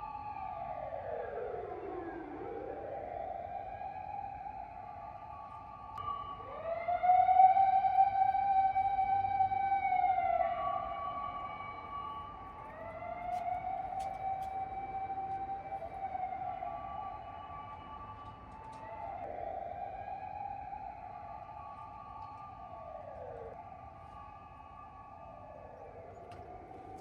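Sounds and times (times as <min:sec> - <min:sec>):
siren wailing: 0:00.0 - 0:27.0.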